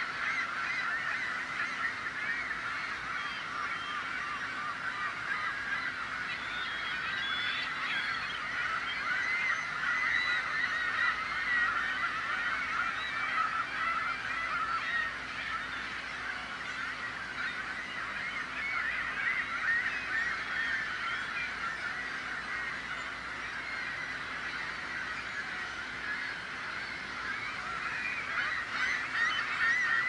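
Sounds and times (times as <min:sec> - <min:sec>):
flock of gulls calling: 0:00.0 - 0:30.0.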